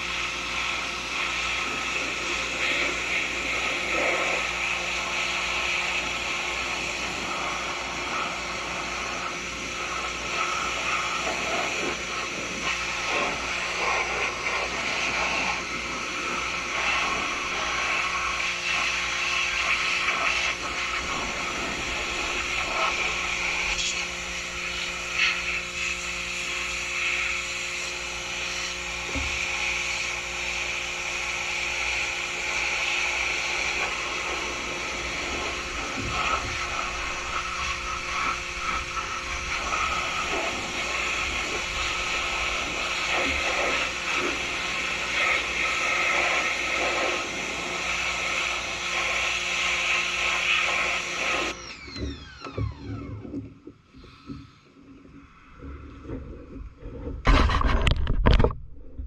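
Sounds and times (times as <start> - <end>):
water jet spraying: 0.0 - 51.6
pressure washer motor humming: 0.0 - 53.6.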